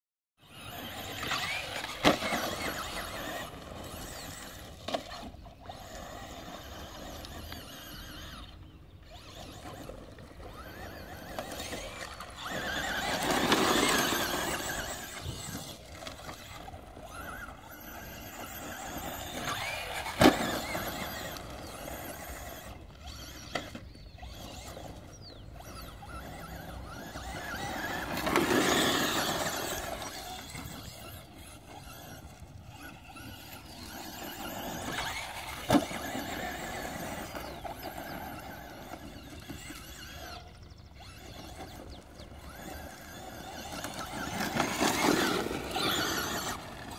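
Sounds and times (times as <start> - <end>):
toy truck motor whining: 0.4 - 46.9.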